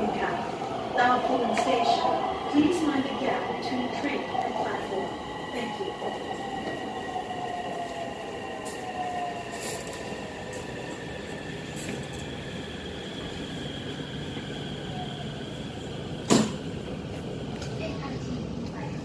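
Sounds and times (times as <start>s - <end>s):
train high whine: 0.0s - 18.0s.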